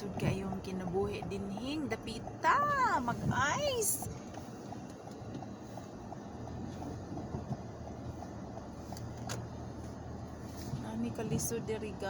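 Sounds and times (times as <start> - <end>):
car engine and road noise: 0.0 - 12.0
wind against car: 0.0 - 12.0.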